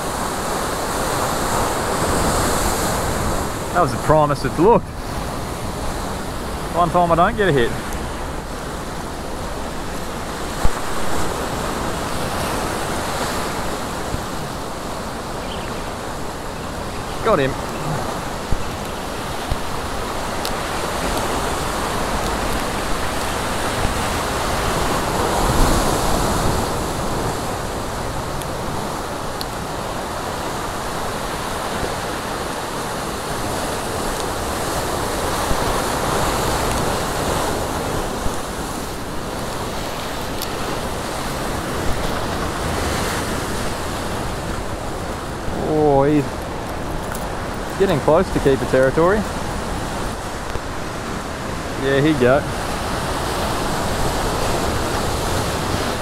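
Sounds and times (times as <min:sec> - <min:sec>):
surf breaking over rocks: 0:00.0 - 0:56.0.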